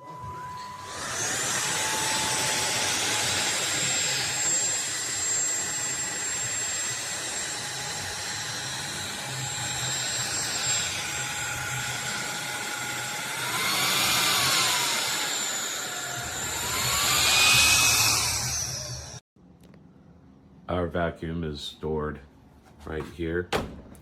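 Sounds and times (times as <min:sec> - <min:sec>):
vacuum cleaner whining: 0:00.0 - 0:19.2.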